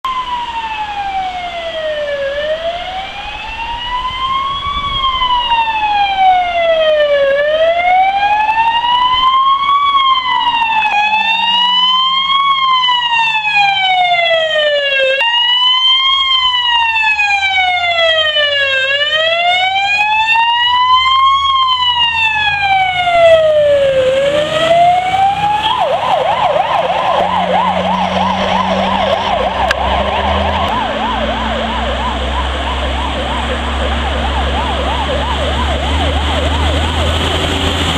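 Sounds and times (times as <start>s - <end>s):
fire engine siren wailing: 0.0s - 37.9s
siren yelp: 0.0s - 37.9s
diesel engine rumble: 0.2s - 37.9s.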